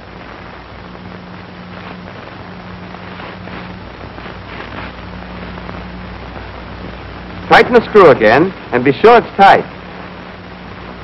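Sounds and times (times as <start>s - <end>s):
film soundtrack hiss: 0.0s - 11.0s
low mains hum: 0.0s - 11.0s.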